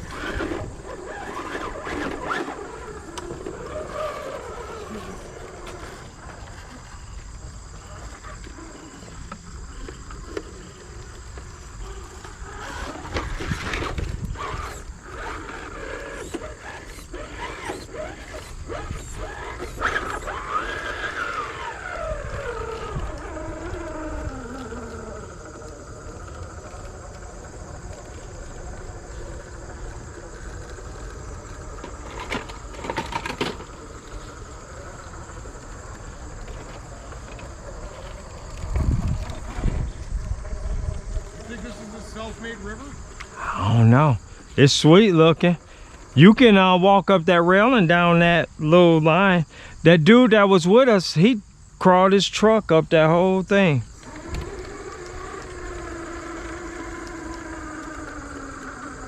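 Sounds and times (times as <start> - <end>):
electric motor whining: 0.0 - 46.7, 53.8 - 59.0.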